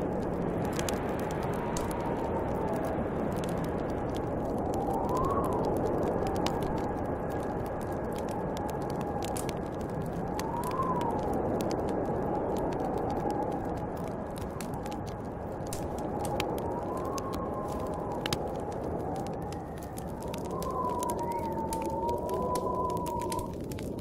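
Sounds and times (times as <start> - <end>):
snowstorm wind howling: 0.0 - 24.0
wood fire crackling: 0.0 - 24.0.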